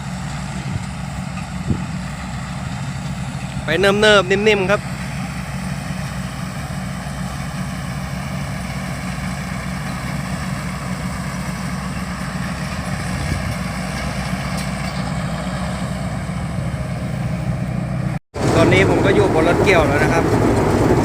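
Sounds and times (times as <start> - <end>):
harvester diesel engine running: 0.0 - 21.0.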